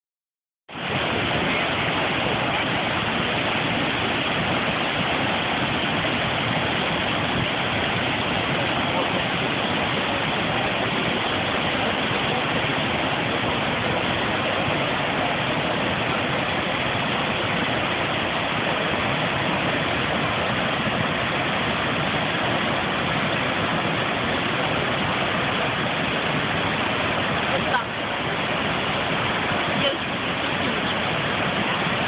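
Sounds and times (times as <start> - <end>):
waterfall roaring: 0.7 - 32.0.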